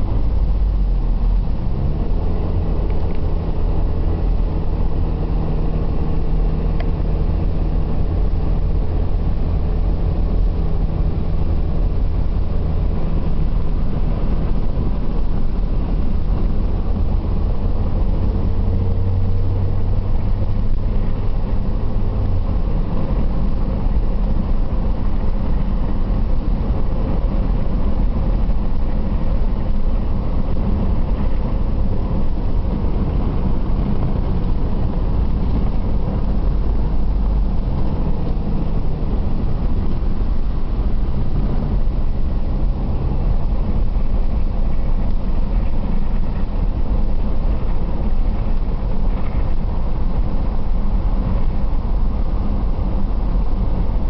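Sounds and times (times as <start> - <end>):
car interior engine and road rumble: 0.0 - 54.0.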